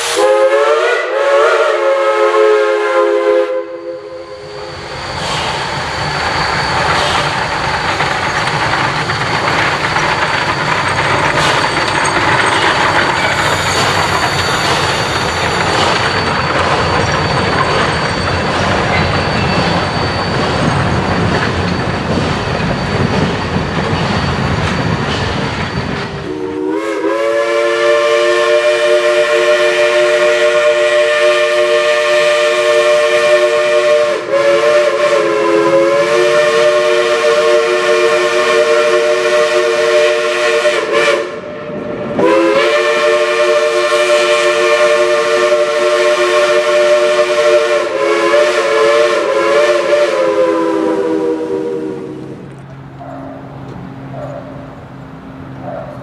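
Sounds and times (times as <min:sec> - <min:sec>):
steam locomotive chime whistle: 0:00.0 - 0:07.6, 0:08.2 - 0:54.5
rail cars rumbling and clattering: 0:00.0 - 0:56.0.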